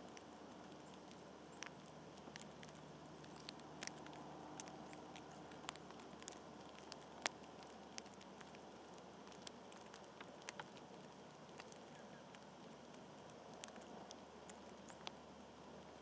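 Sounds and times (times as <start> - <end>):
faint outdoor hiss: 0.0 - 16.0
light taps and clicks: 0.1 - 15.2.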